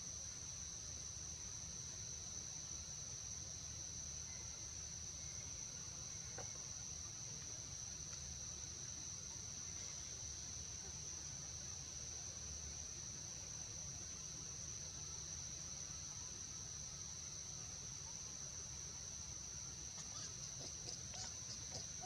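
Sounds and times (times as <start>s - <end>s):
insect chorus shrill drone: 0.0s - 22.0s.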